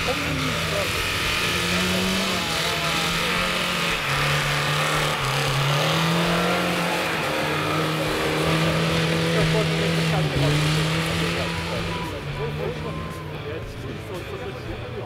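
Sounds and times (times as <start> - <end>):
car engine running under load: 0.0 - 15.0.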